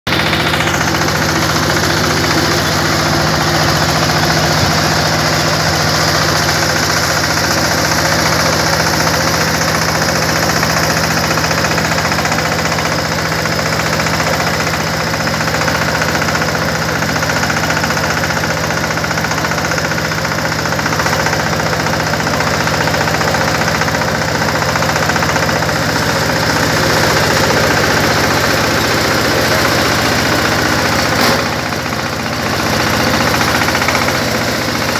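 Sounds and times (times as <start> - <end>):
baler machine engine running: 0.1 - 34.9
mechanical knocking: 0.1 - 34.9.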